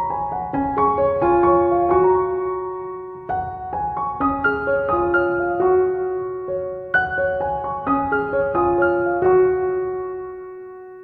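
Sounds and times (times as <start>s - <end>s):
slow piano melody: 0.0s - 11.0s.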